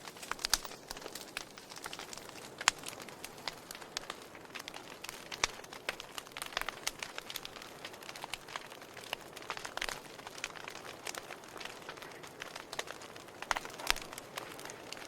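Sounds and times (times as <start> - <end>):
fire crackling and popping: 0.0 - 15.0
soft hiss of burning: 0.0 - 15.0.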